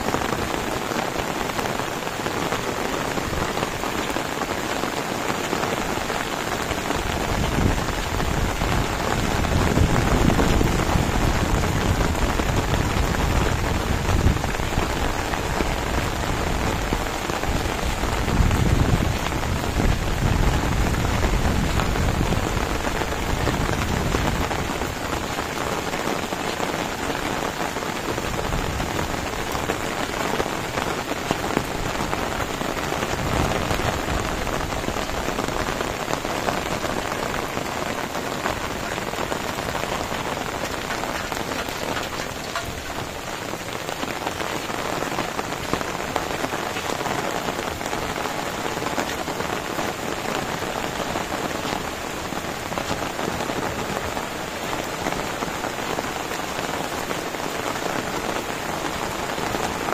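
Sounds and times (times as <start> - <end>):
heavy rain on plants: 0.0 - 59.9.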